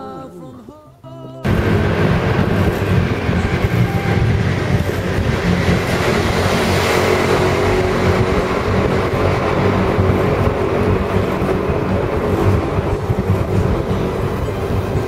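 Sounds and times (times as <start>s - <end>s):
rumbling inside road tunnel: 1.4s - 15.0s.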